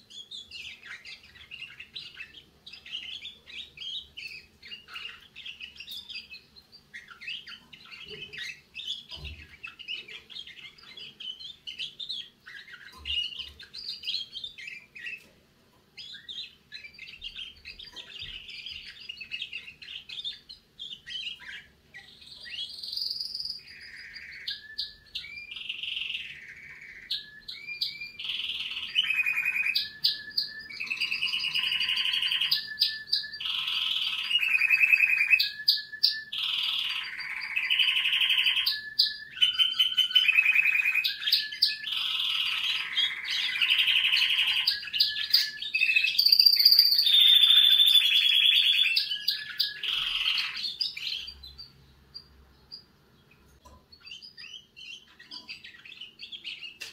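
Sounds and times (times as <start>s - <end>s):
canary singing: 0.0s - 56.9s.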